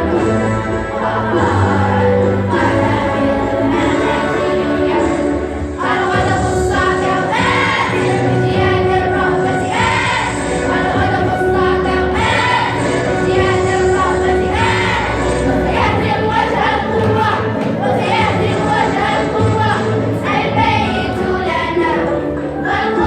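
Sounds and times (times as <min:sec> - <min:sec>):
children's choir singing: 0:00.0 - 0:23.0
music under voices: 0:00.0 - 0:23.0.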